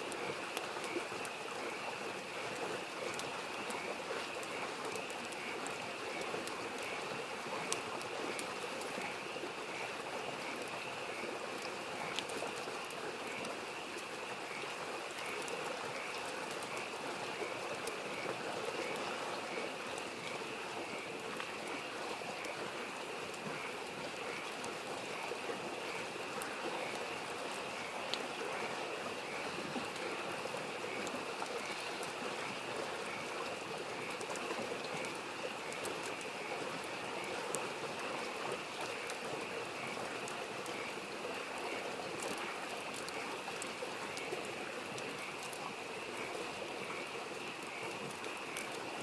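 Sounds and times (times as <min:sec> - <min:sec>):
campfire crackles: 0:00.0 - 0:49.0
stream babbling: 0:00.0 - 0:49.0
frogs calling: 0:00.1 - 0:49.0.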